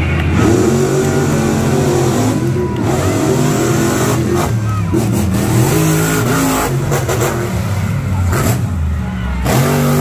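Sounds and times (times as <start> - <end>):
trucks revving hard: 0.0 - 10.0.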